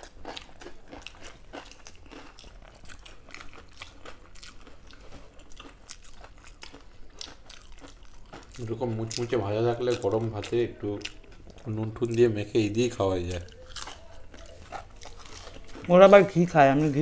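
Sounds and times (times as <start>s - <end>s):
crunching crisp fritters: 0.0s - 17.0s.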